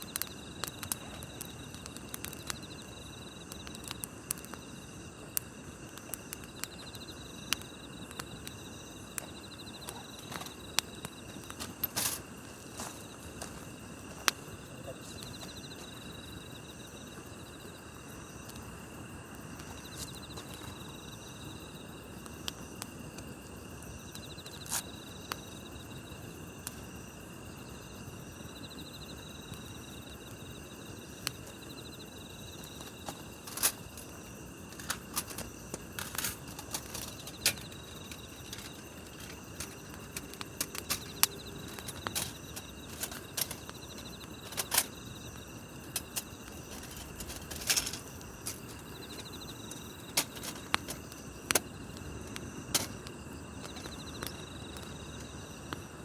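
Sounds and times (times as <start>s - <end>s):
campfire crackling and popping: 0.0s - 56.0s
insects trilling: 0.0s - 56.0s
pulsing insect trill: 0.0s - 56.0s.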